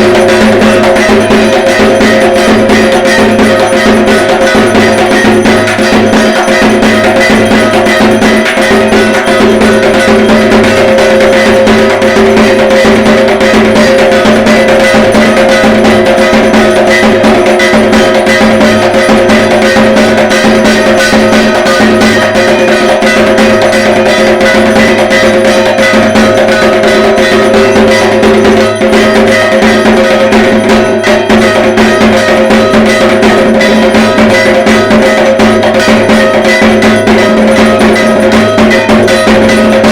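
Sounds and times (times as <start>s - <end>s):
barrel drum beaten with sticks: 0.0s - 39.9s.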